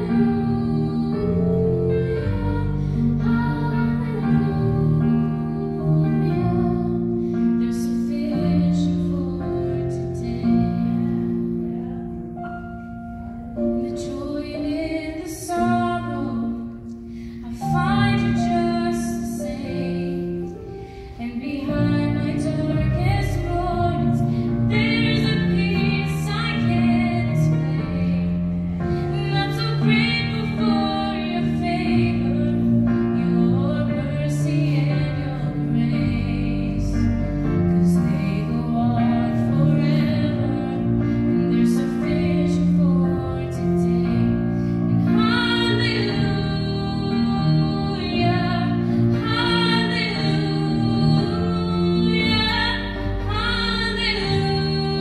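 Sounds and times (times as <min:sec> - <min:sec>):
woman singing: 0:00.0 - 0:12.3, 0:13.6 - 0:55.0.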